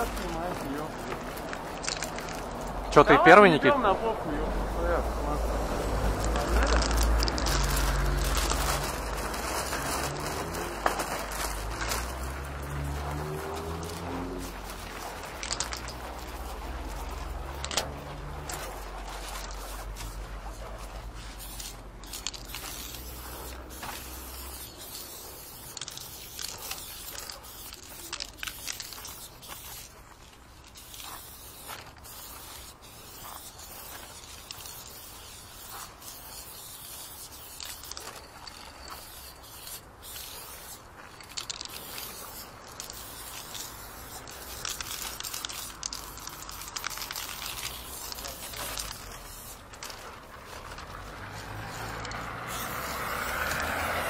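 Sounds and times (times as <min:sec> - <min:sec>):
spray paint can hissing: 0:00.0 - 0:03.0, 0:05.4 - 0:54.0.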